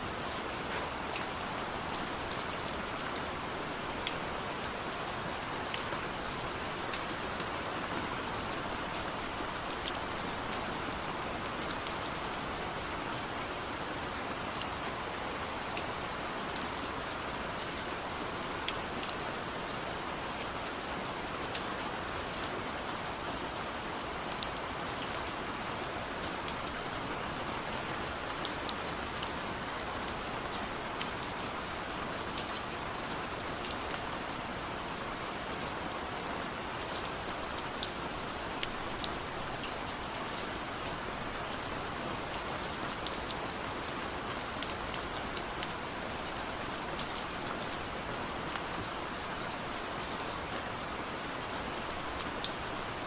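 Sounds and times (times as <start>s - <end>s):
steady rain hiss: 0.0s - 53.0s
raindrops ticking on a surface: 0.1s - 53.0s.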